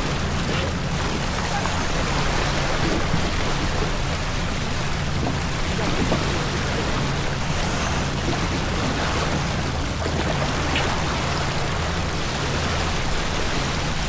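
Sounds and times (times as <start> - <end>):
water rushing along boat hull: 0.0 - 14.0.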